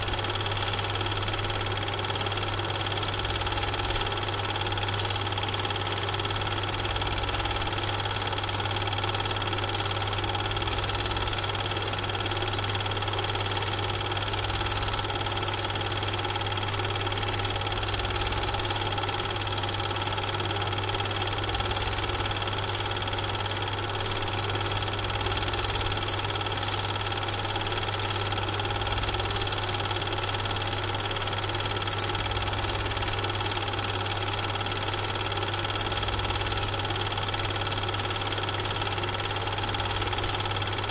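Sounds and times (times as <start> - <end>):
steady motor hum: 0.0 - 40.9.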